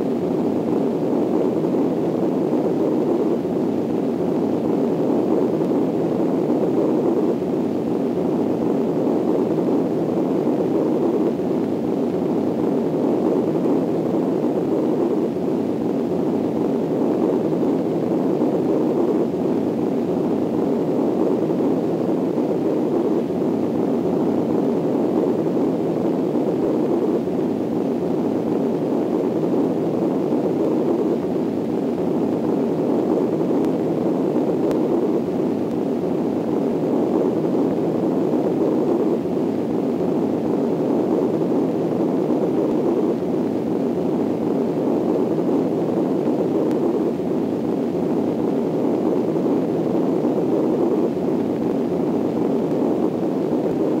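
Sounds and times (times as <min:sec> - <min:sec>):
rushing wind roar: 0:00.0 - 0:54.0.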